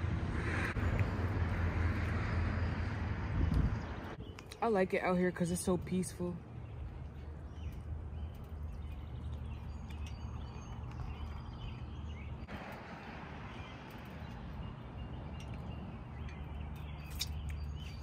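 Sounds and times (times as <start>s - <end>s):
small birds chirping: 3.3s - 18.0s.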